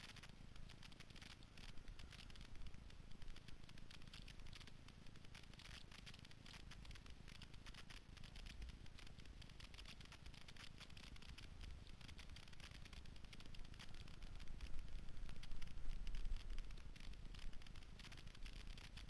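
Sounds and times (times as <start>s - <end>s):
small clicks and rattles: 0.0s - 19.0s.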